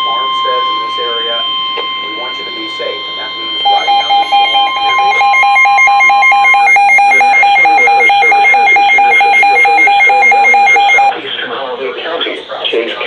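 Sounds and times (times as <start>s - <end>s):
steady high tone: 0.0s - 11.1s
weather radio alarm beeping: 0.0s - 11.1s.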